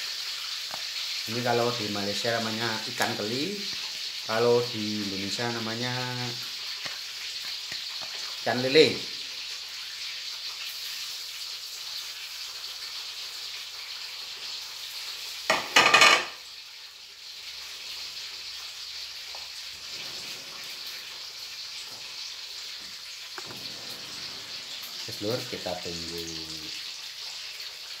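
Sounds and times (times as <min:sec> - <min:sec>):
fish frying in hot oil: 0:00.0 - 0:28.0.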